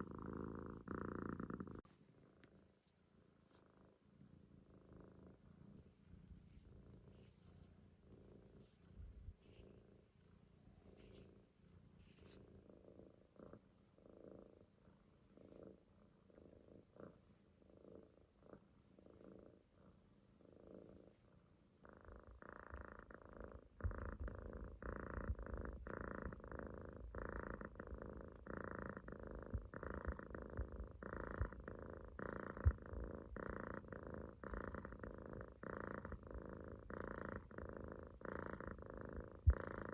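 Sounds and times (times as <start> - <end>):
kitten purring snore: 0.0 - 39.9.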